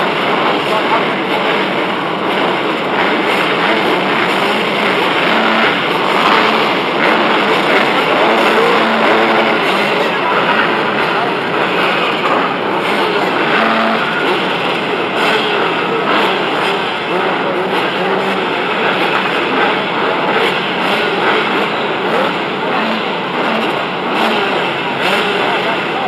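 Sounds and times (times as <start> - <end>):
motocross bike engines: 0.0 - 26.0.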